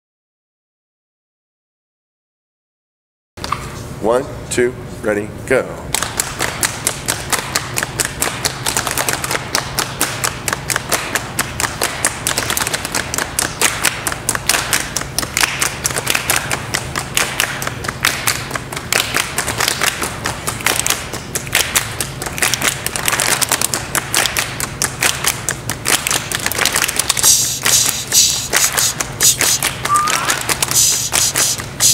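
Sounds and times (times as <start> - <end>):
group clapping in rhythm: 5.9 - 31.9.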